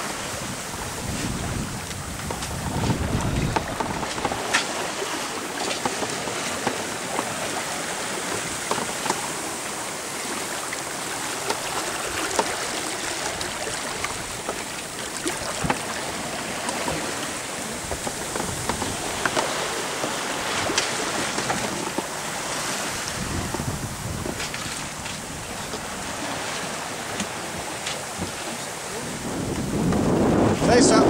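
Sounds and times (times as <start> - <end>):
water rushing along a hull: 0.0 - 31.0.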